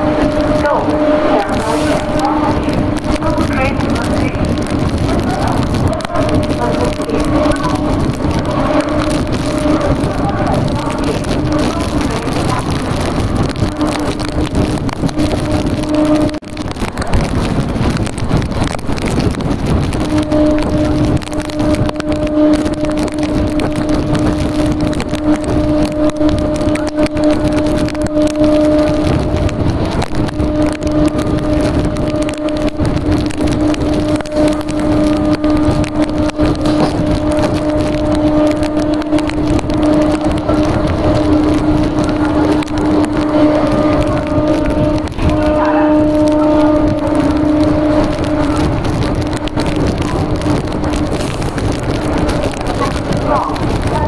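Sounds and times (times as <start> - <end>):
rushing wind and track noise: 0.0 - 54.0
steady pitched tone: 0.0 - 54.0
train running at speed: 0.0 - 54.0
wind buffeting microphone: 0.0 - 54.0.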